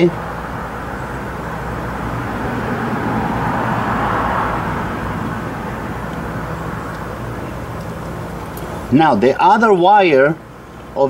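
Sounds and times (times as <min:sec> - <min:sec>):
vehicle passing: 0:00.0 - 0:10.7
steady low hum: 0:00.0 - 0:11.0.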